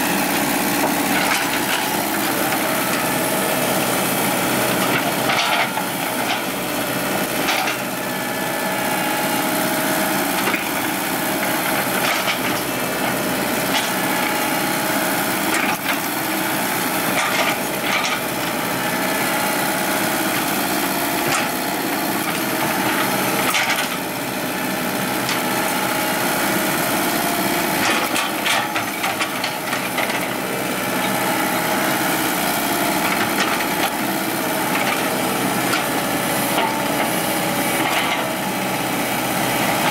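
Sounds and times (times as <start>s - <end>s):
hydraulic excavator running: 0.0s - 39.9s.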